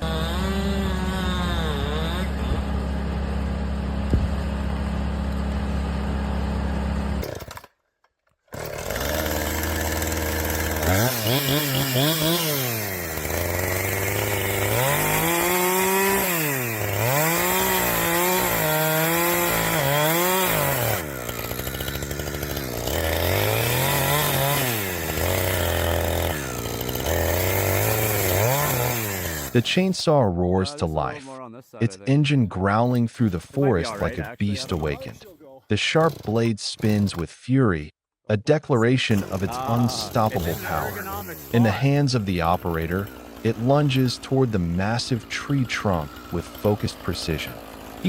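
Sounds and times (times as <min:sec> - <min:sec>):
chainsaw engine revving: 0:00.0 - 0:07.8, 0:08.5 - 0:29.9, 0:32.7 - 0:37.2, 0:39.1 - 0:48.0.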